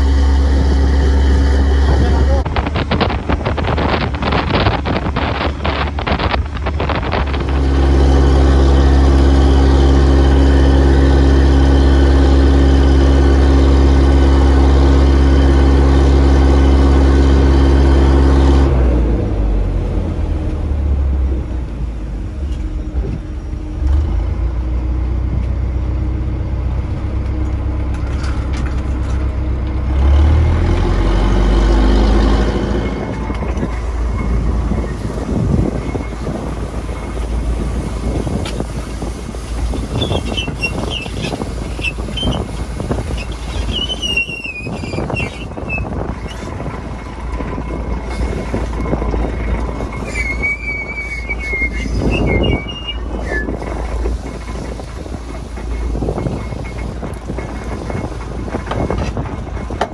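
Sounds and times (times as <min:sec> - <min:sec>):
rough rushing noise: 0:00.0 - 0:24.2, 0:29.9 - 0:59.9
boat engine humming: 0:00.0 - 0:59.9.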